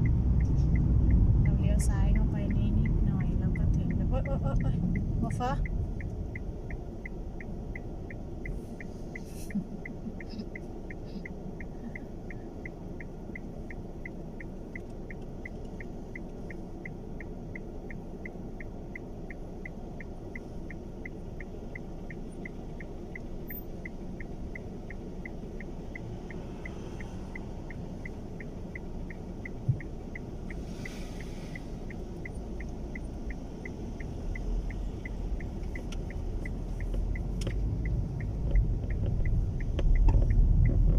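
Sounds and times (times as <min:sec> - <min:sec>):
car cabin and engine hum: 0:00.0 - 0:40.9
turn signal ticking: 0:00.0 - 0:40.9.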